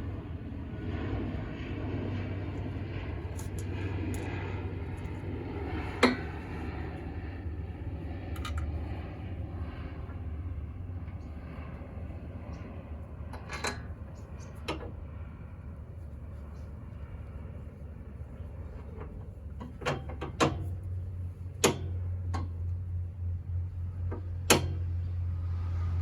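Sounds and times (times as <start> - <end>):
vehicle running noise: 0.0 - 26.0.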